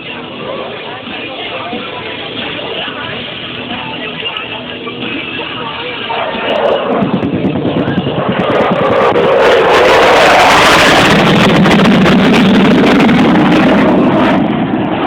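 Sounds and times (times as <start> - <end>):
jet engines low pass: 2.1 - 15.0.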